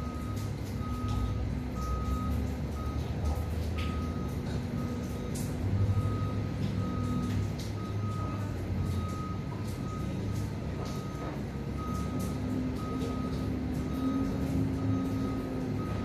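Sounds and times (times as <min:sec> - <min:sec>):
low engine rumble: 0:00.0 - 0:16.0
reversing alarm beeping: 0:00.0 - 0:16.0.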